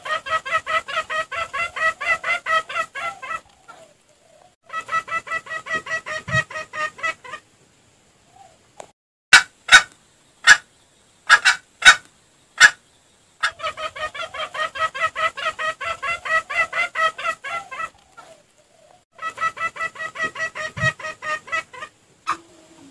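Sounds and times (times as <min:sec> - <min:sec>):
junglefowl clucking: 0:00.0 - 0:07.5, 0:09.3 - 0:12.8, 0:13.4 - 0:22.9.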